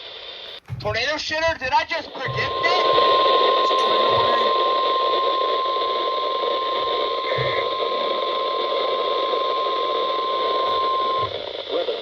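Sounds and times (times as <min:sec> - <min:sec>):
radio hiss: 0:00.0 - 0:12.0
long steady alarm beep: 0:02.1 - 0:12.0.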